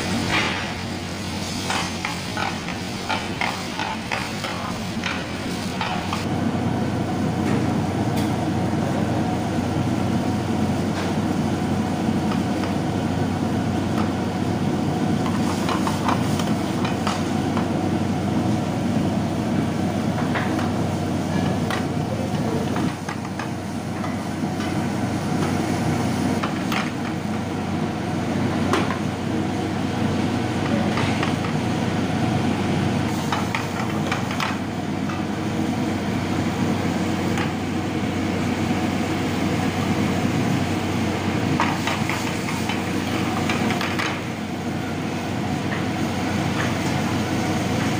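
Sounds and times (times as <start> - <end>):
gas burner flame rushing: 0.0 - 47.9.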